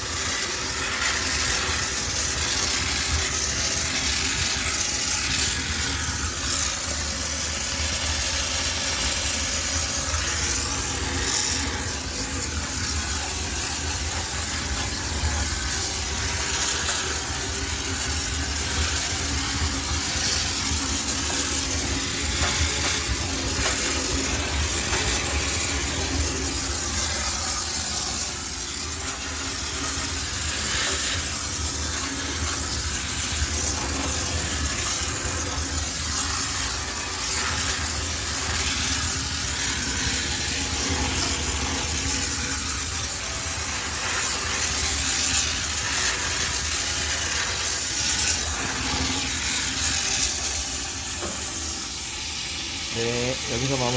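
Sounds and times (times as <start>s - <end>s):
steam cleaner hissing: 0.0s - 53.9s.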